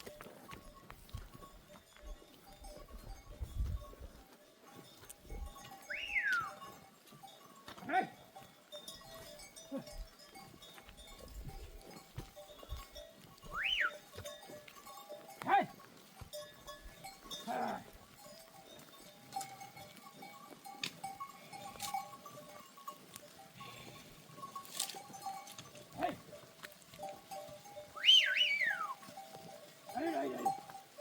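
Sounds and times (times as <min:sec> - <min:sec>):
neck bells ringing: 0:00.0 - 0:31.0.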